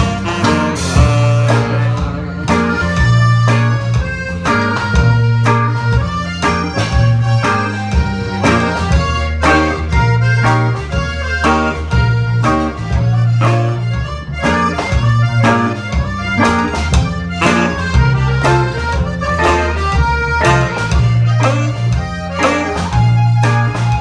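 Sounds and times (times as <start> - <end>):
accordion: 0.0 - 24.0
electric guitar: 0.0 - 24.0
heavy bass line: 0.0 - 24.0
steady beat: 0.0 - 24.0.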